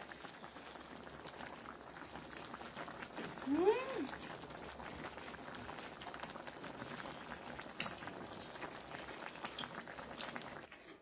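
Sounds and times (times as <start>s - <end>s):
broth bubbling in a pan: 0.0s - 11.0s.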